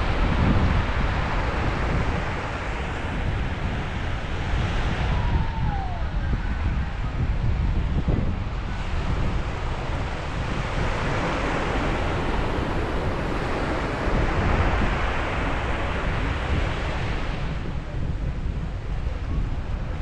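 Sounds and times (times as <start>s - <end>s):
ocean waves breaking: 0.0s - 17.8s
wind on microphone: 0.0s - 20.0s.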